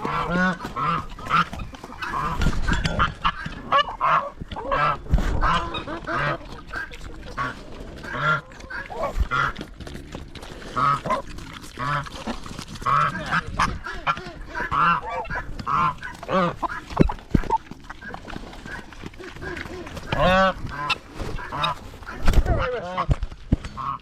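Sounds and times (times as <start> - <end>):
geese honking: 0.0 - 9.5, 12.8 - 23.1.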